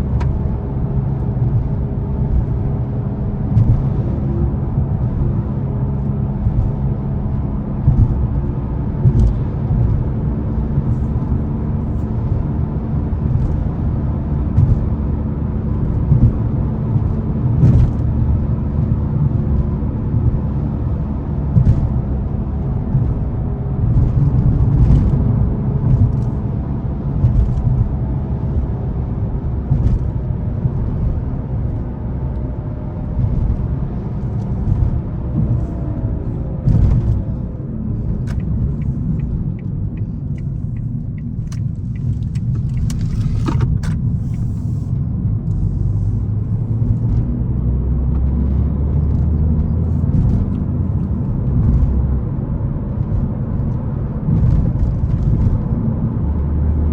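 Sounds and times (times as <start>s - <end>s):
car engine running: 0.0s - 56.9s
road and tyre rumble: 0.0s - 56.9s.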